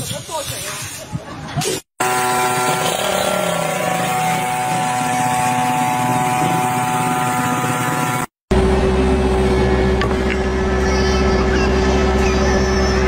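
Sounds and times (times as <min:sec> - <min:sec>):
dirt bike engine running: 0:02.0 - 0:12.9
steady machine hum: 0:02.0 - 0:13.0.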